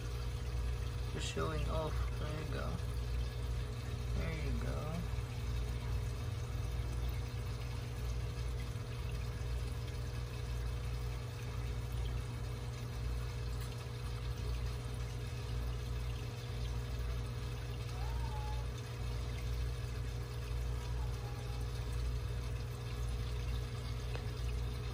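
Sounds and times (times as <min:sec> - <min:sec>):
aquarium filter bubbling: 0:00.0 - 0:24.9.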